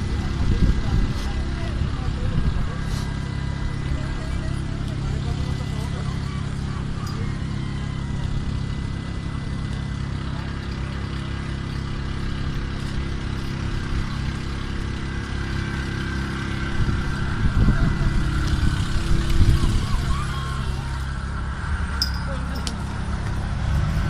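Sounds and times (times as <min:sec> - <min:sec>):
loud irregular rumble: 0:00.0 - 0:24.0
vehicle engine idling: 0:00.0 - 0:24.0.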